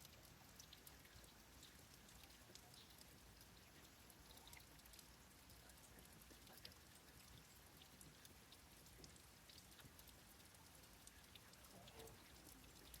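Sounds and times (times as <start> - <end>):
rain hiss: 0.0 - 13.0
raindrops ticking: 0.0 - 13.0.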